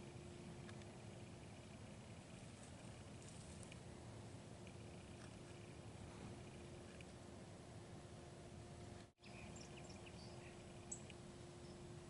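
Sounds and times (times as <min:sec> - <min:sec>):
faint background hiss: 0:00.0 - 0:12.0
low steady hum: 0:00.0 - 0:12.0.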